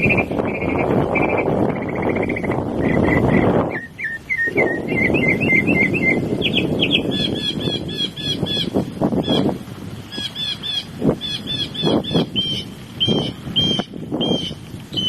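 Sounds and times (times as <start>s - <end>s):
mockingbird singing: 0.0s - 9.5s, 10.1s - 14.6s.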